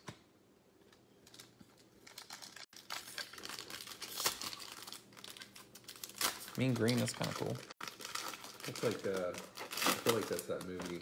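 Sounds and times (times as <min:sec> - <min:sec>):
foil wrapper crinkling and tearing: 0:01.3 - 0:11.0.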